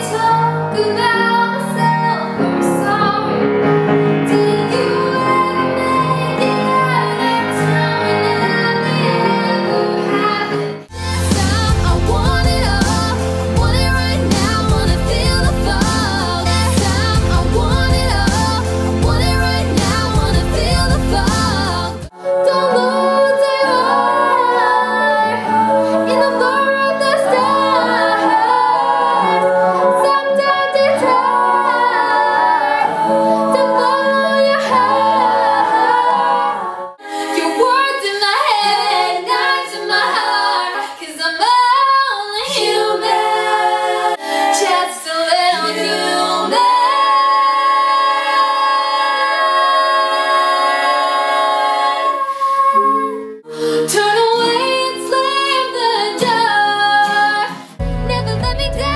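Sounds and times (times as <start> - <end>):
women's vocal group singing in harmony: 0.0 - 58.9.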